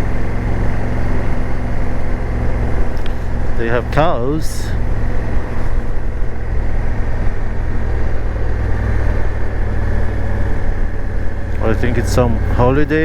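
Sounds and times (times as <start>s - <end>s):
motorcycle engine drone: 0.0s - 13.0s
road and wind noise: 0.0s - 13.0s.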